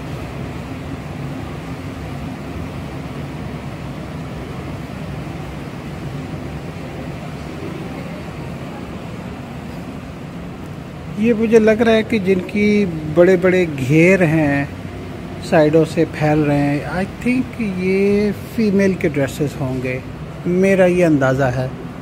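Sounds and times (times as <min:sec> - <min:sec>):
even noise: 0:00.0 - 0:22.0
low background hum: 0:00.0 - 0:22.0.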